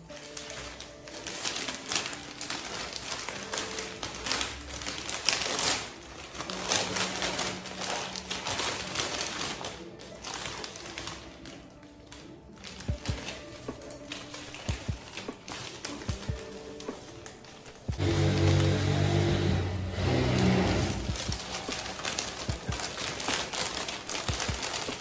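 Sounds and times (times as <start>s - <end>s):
plastic bags crinkling: 0.0s - 25.0s
soft music: 0.0s - 25.0s.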